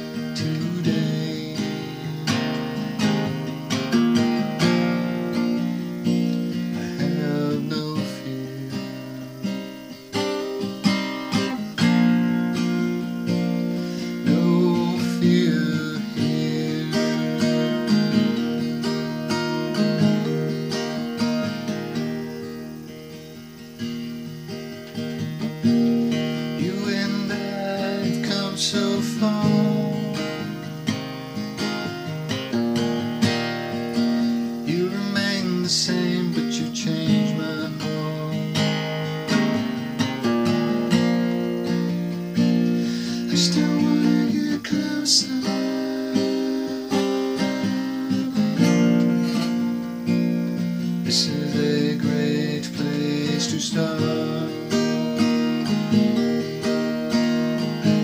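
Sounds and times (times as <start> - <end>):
acoustic guitar strummed and picked: 0.0 - 58.0.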